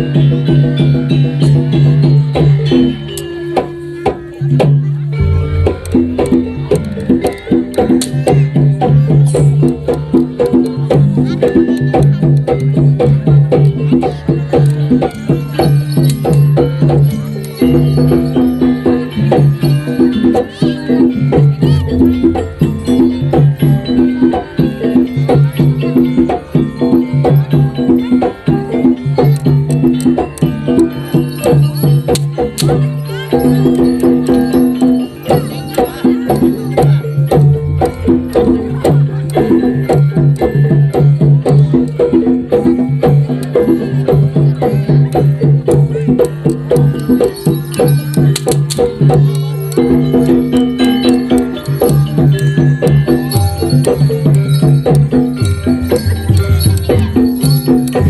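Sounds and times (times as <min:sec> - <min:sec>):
gamelan drum and gong-chimes: 0:00.0 - 0:58.0.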